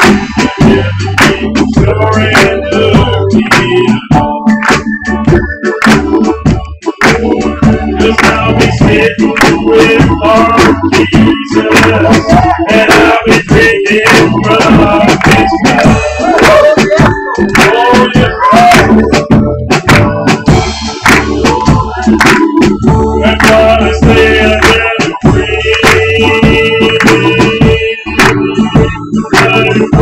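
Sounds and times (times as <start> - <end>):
band playing upbeat gospel music: 0.0 - 30.0
drum kit beat: 0.0 - 30.0.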